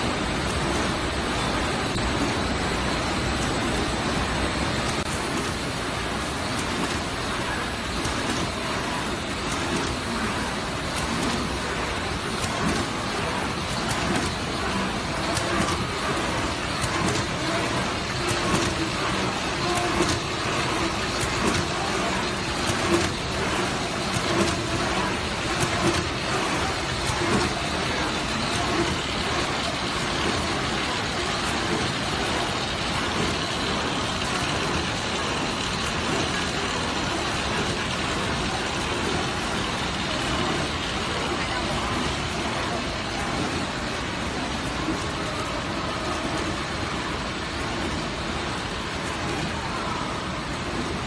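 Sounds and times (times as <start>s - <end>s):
machine mechanical clatter: 0.0s - 51.0s.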